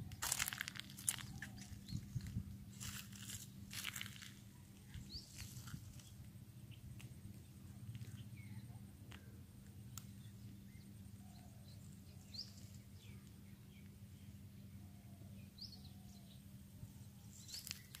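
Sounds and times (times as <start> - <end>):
faint bird chirps: 0.0 - 18.0
steady low hum: 0.0 - 18.0.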